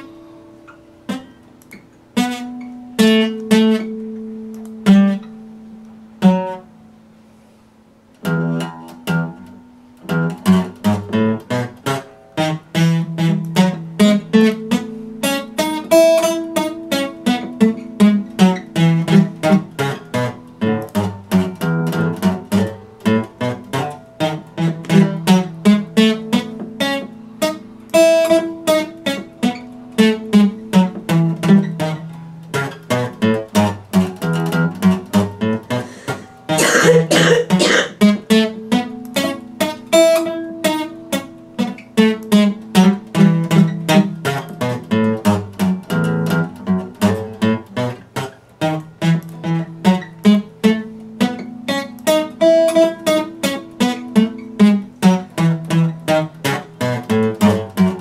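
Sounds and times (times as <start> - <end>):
acoustic guitar plucking: 0.0 - 58.0.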